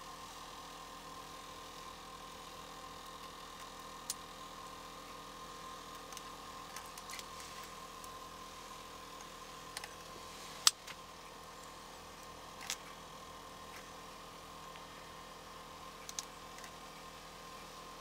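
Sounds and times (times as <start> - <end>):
low tonal hum: 0.0 - 18.0.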